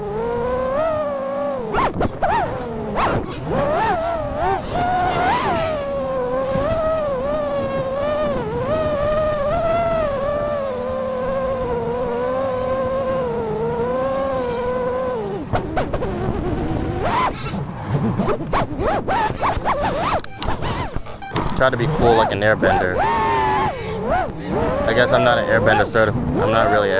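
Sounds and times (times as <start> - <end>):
drone motors whining: 0.0 - 26.9.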